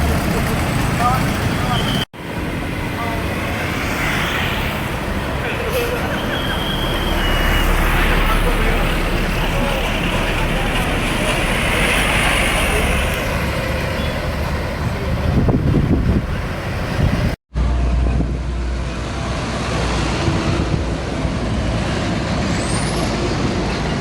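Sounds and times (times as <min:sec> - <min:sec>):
heavy trucks passing: 0:00.0 - 0:24.0.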